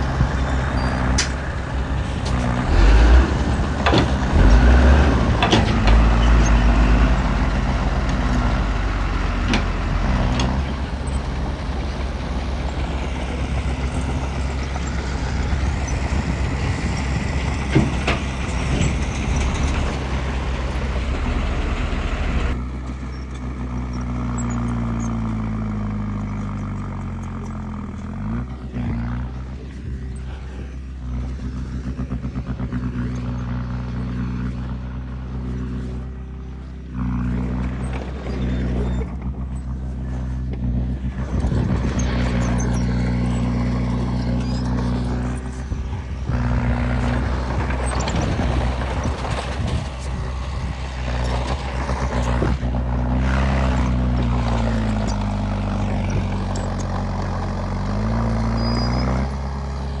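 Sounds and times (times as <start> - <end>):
bulldozer diesel engine running: 0.0 - 60.0
tracks clattering over soil: 9.4 - 60.0.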